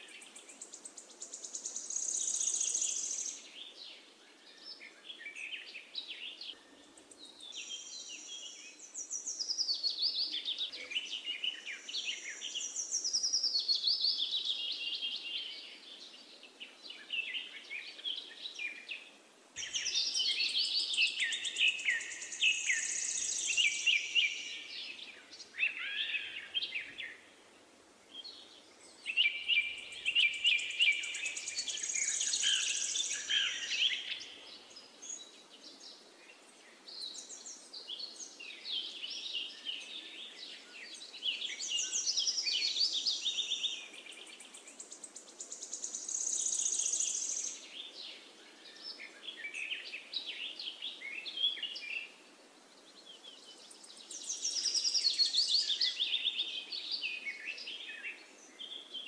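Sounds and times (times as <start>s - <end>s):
birds singing: 0.0s - 27.3s, 28.1s - 59.0s
faint steady background noise: 0.0s - 59.0s.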